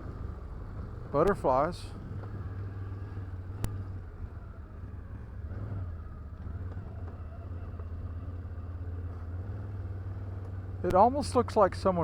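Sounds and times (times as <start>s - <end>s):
atv engine low drone: 0.0s - 12.0s.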